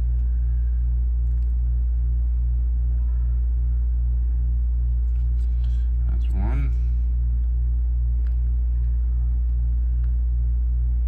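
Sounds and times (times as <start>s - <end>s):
low pulsing electrical hum: 0.0s - 11.0s.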